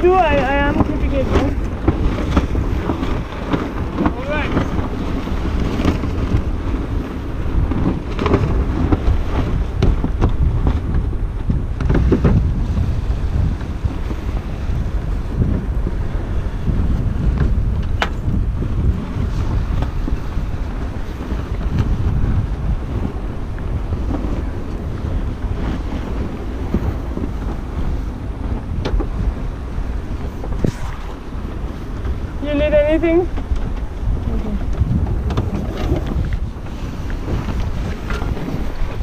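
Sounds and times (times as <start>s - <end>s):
water rushing along hull: 0.0s - 39.0s
wind buffeting microphone: 0.0s - 39.0s.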